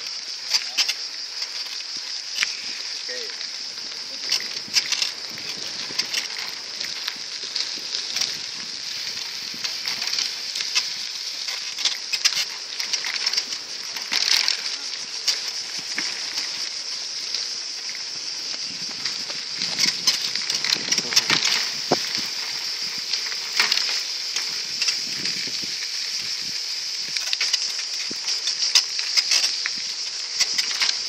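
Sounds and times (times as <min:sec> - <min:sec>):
bicycle tyres on unpaved path: 0:00.0 - 0:31.0
cicadas buzzing: 0:00.0 - 0:31.0.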